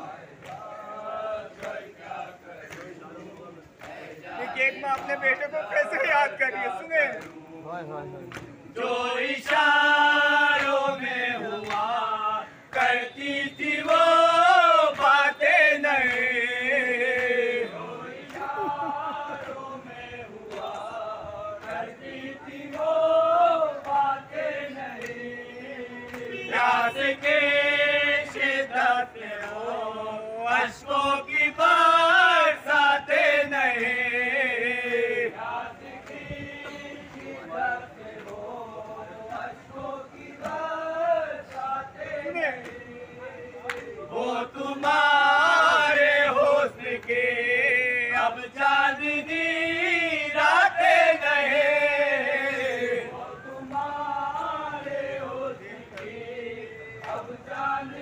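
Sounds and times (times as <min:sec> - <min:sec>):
men chanting: 0:00.0 - 0:58.0.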